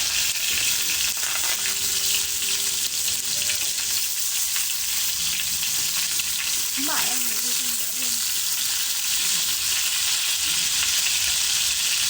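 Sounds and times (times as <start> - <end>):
wood fire crackling and hissing: 0.0 - 12.0.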